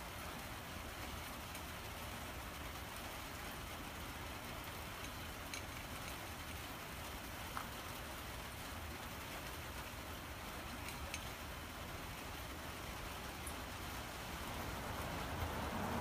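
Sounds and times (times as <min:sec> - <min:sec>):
steady hiss with low rumble: 0:00.0 - 0:16.0.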